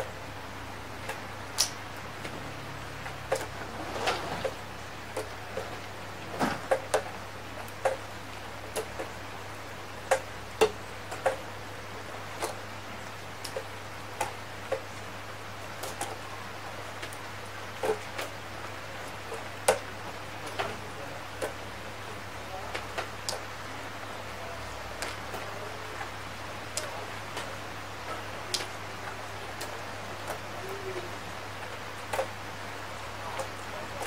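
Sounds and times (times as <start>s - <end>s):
raindrops tapping hard surface: 1.0s - 9.2s, 10.0s - 11.6s, 12.3s - 12.6s, 13.4s - 15.0s, 15.8s - 18.4s, 19.0s - 23.5s, 24.5s - 34.0s.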